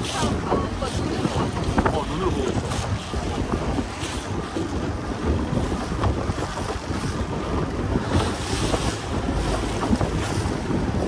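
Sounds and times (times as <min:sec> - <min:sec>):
water rushing along hull: 0:00.0 - 0:11.0
wind on microphone: 0:00.0 - 0:11.0.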